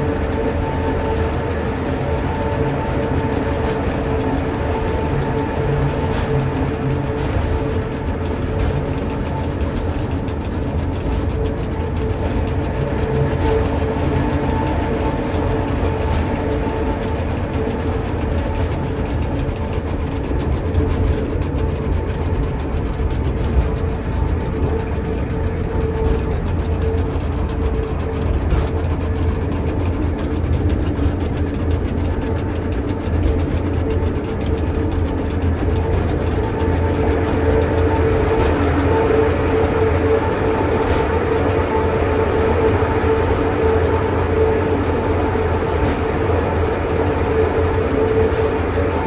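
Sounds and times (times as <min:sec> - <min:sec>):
drive whine: 0:00.0 - 0:49.0
railcar low rumble: 0:00.0 - 0:49.0.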